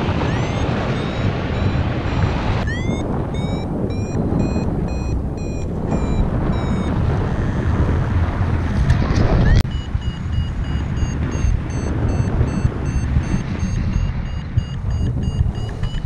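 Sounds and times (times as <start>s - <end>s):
variometer beeping: 0.0s - 7.8s, 9.4s - 16.0s
wind on microphone: 0.0s - 16.0s.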